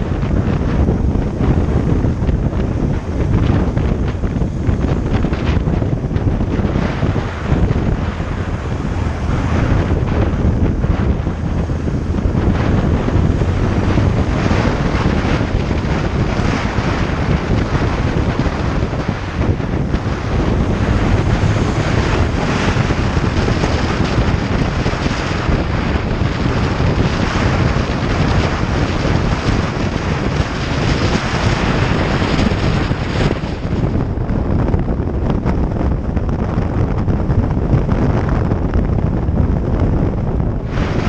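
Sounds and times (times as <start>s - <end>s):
motorcycle engine and road noise: 0.0s - 41.0s
wind buffeting microphone: 0.0s - 41.0s.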